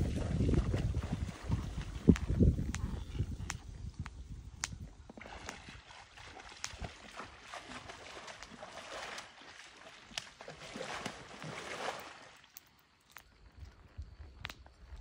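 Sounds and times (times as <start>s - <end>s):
hooves splashing in water: 0.0s - 15.0s.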